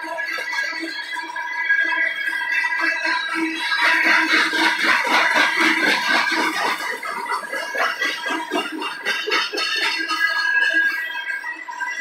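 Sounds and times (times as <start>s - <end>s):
train wheels squealing: 0.1s - 12.0s.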